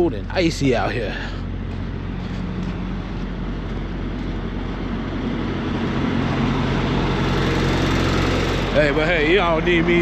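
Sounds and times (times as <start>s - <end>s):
large diesel engine idling: 0.0s - 10.0s.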